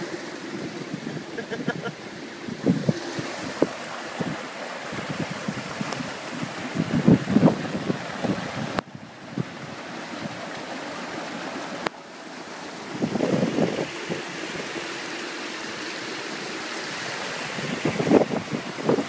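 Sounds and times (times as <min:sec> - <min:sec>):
wind buffeting microphone: 0:00.0 - 0:11.9, 0:12.6 - 0:15.0, 0:16.3 - 0:19.0
floodwater sloshing around vehicle: 0:00.0 - 0:19.0.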